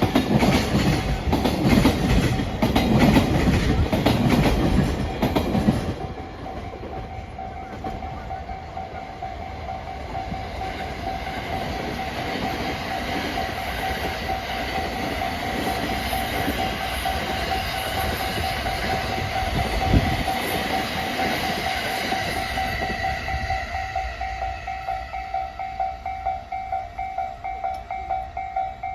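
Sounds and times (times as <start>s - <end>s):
freight train wheels clicking: 0.0s - 28.9s.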